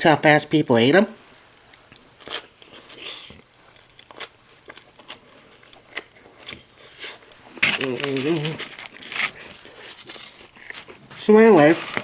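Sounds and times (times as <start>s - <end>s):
food crunches: 1.7s - 12.0s
person chewing food: 1.7s - 12.0s.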